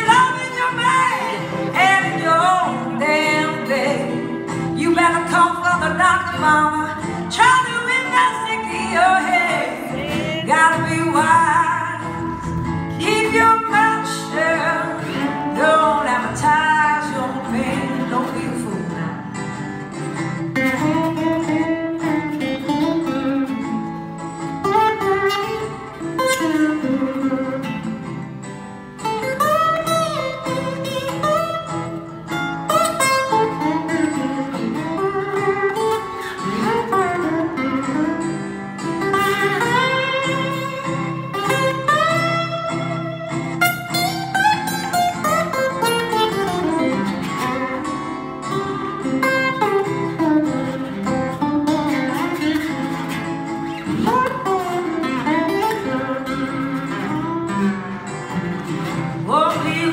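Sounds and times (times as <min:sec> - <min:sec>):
sliding acoustic guitar lead: 0:00.0 - 0:59.9
strummed acoustic guitar rhythm: 0:00.0 - 0:59.9.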